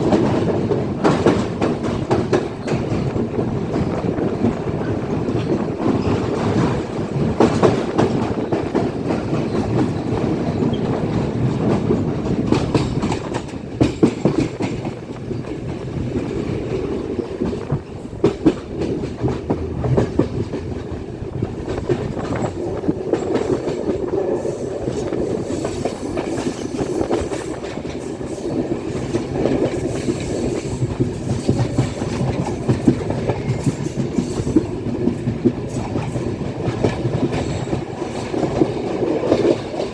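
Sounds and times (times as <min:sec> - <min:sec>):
carriages rumbling: 0:00.0 - 0:35.9
train wheels clattering: 0:00.0 - 0:39.9.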